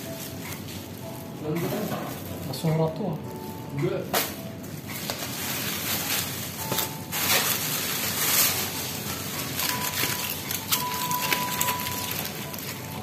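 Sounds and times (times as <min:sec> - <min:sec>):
plastic and foil crinkling: 0:00.0 - 0:13.0.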